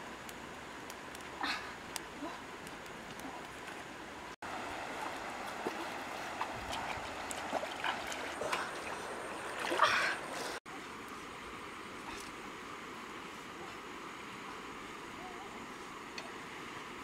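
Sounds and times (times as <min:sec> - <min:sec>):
river running over rocks: 0:00.4 - 0:17.0.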